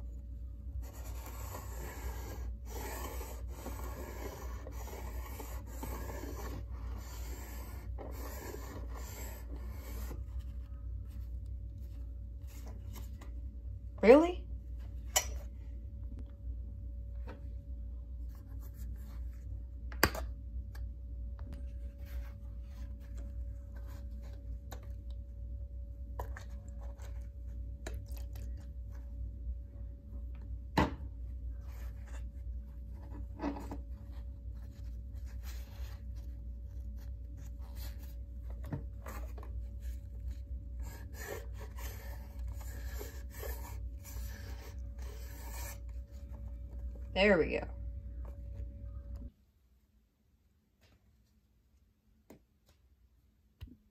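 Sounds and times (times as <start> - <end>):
low hum: 0.0 - 50.7.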